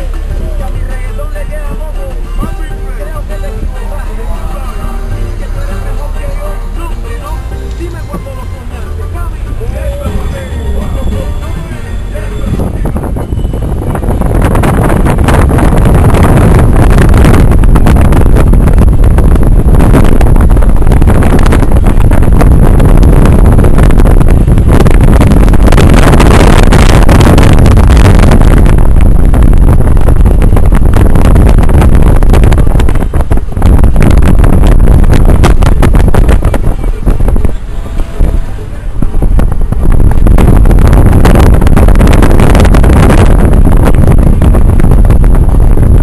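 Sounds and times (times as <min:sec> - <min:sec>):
vehicle engine and road noise: 0:00.0 - 0:46.0
wind buffeting microphone: 0:09.0 - 0:46.0.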